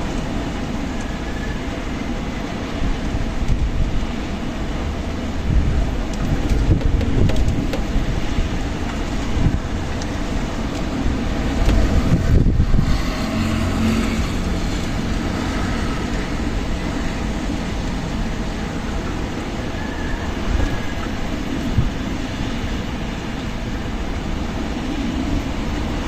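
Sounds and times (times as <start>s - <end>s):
strong wind blowing: 0.0s - 26.0s.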